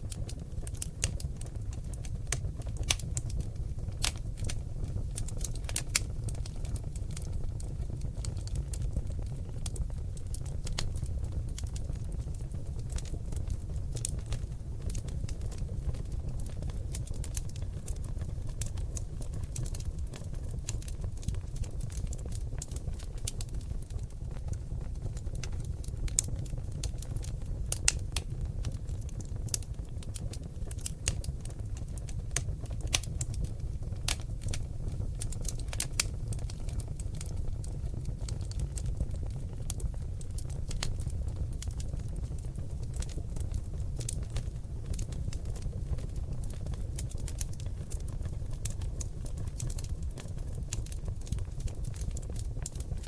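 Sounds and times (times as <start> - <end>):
log fire crackling and popping: 0.0 - 53.0
low fire rumble: 0.0 - 53.0.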